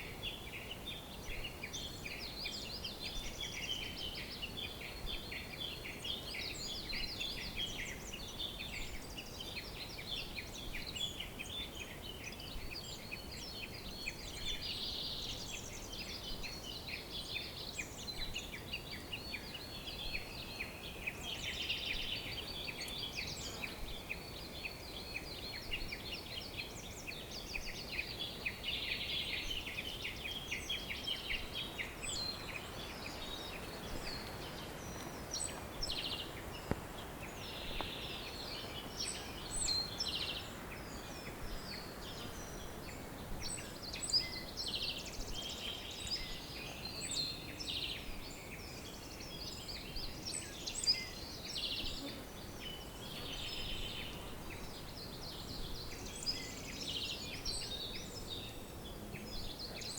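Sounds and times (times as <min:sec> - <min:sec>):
faint background hiss: 0:00.0 - 0:59.9
small birds chirping and singing: 0:00.0 - 0:59.9.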